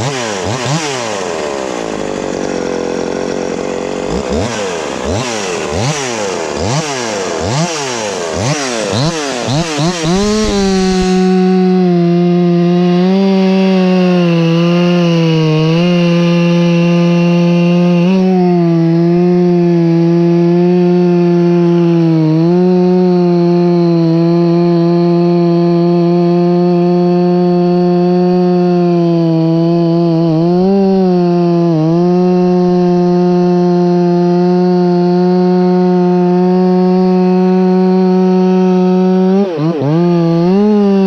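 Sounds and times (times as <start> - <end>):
chainsaw revving: 0.0 - 41.0.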